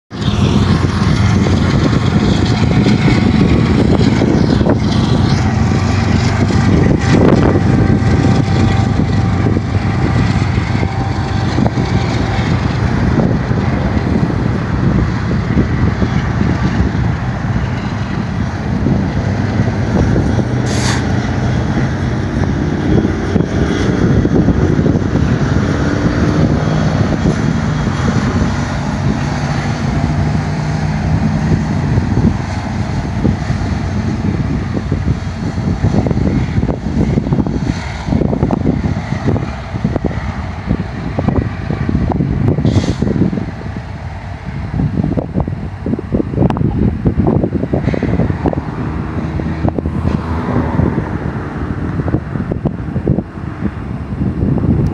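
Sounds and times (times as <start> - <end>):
locomotive engine drone: 0.1 - 54.9.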